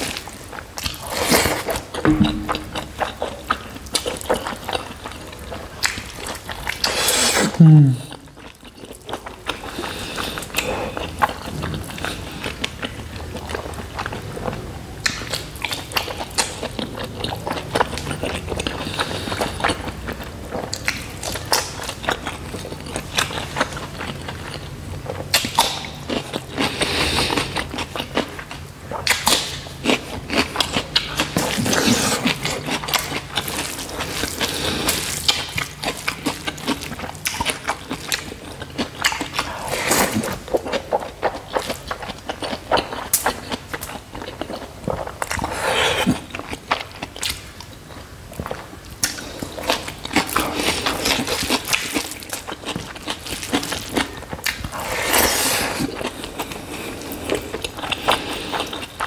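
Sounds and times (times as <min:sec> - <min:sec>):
person chewing with wet smacks: 0:00.0 - 0:59.0.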